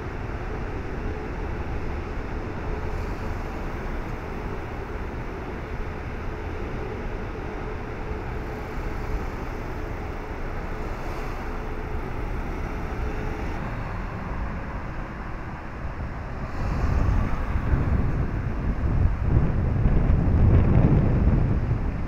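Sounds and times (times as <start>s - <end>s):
street traffic noise: 0.0s - 22.0s
wind buffeting microphone: 0.0s - 22.0s.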